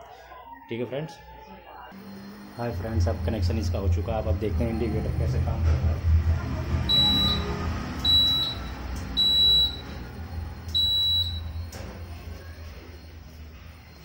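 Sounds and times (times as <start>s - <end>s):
turn-signal buzzer beeping: 2.0s - 6.1s, 6.8s - 14.0s.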